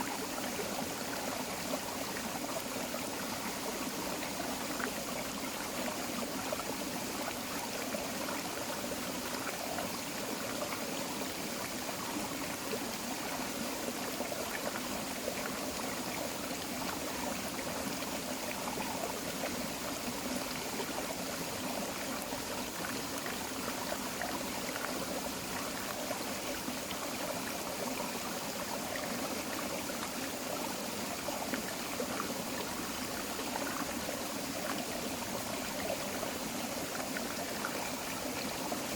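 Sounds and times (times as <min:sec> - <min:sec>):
creek babbling over rocks: 0:00.0 - 0:38.9.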